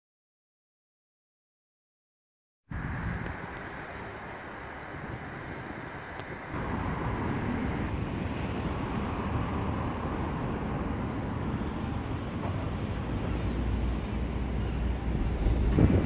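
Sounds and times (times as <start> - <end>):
wind on microphone: 2.7 - 16.0.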